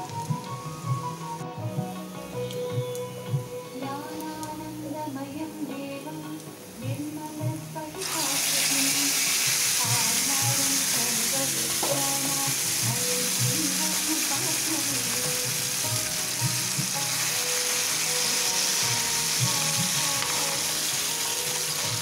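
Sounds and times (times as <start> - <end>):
food sizzling in hot oil: 0.0 - 2.6, 6.0 - 22.0.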